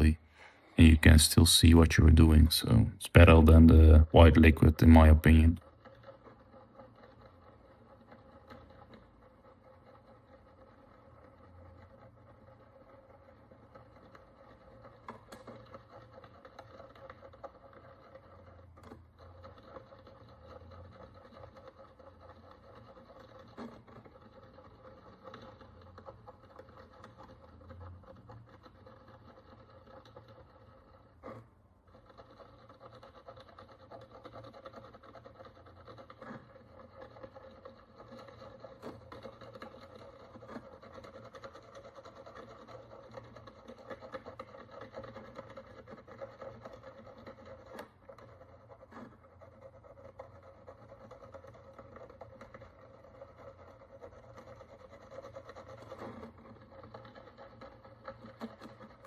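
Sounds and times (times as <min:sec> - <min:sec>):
tool scraping a coin: 0:03.2 - 0:59.0.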